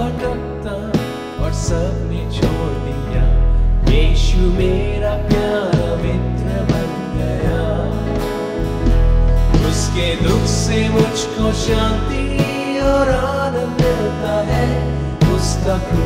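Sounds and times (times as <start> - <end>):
guitar: 0.0 - 16.0
sustained bass notes: 0.0 - 16.0
worship band playing: 0.0 - 16.0.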